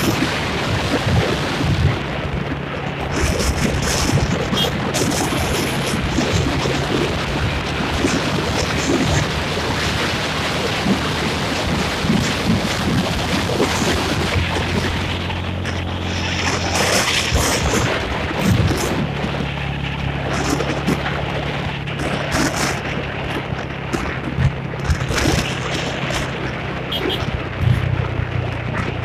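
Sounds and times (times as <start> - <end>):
motorbike engine running: 0.0 - 29.0
wind noise on microphone: 0.0 - 29.0.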